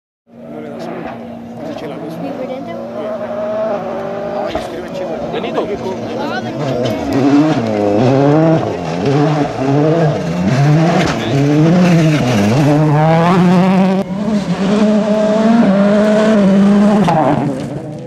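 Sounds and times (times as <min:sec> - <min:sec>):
rally car engine revving: 0:00.3 - 0:18.0.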